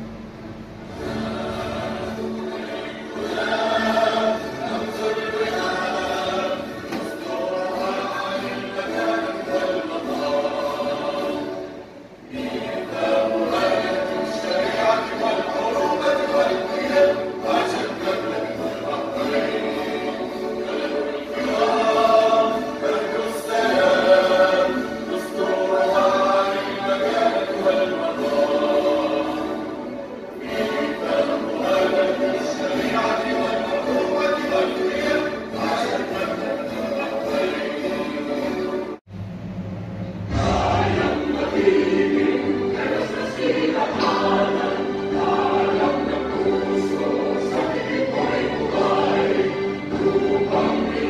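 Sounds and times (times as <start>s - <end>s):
musical accompaniment: 0.0s - 51.0s
choir singing anthem: 0.9s - 39.1s, 40.3s - 51.0s.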